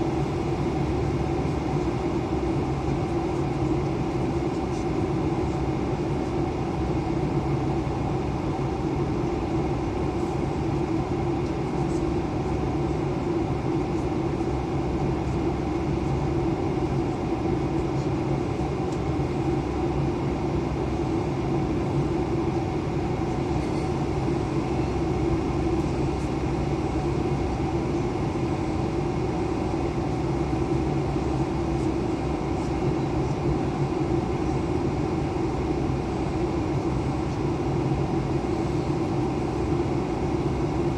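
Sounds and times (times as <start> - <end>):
airliner engines droning: 0.0 - 40.9.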